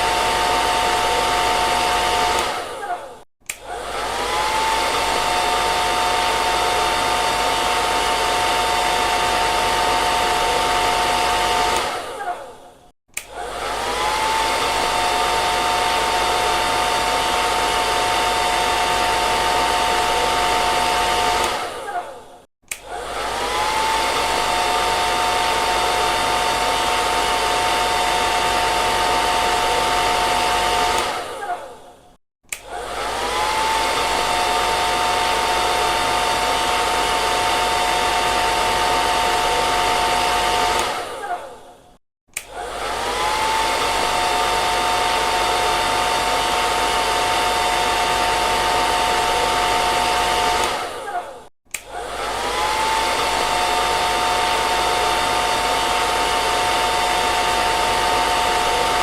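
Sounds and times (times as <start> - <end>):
hair dryer blowing and whining: 0.0 - 59.0.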